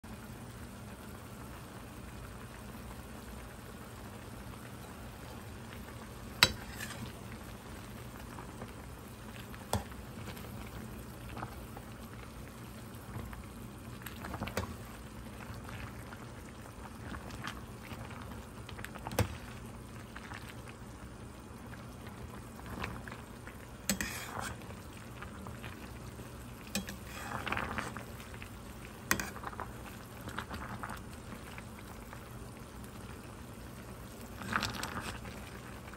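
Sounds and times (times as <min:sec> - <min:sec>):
soup bubbling in a pot: 0:00.1 - 0:35.9.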